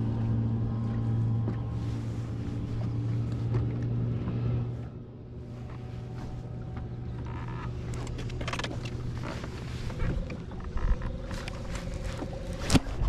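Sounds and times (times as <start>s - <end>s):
electric trolling motor humming: 0.0s - 13.0s
water lapping against hull: 0.0s - 13.0s
wind: 0.0s - 13.0s.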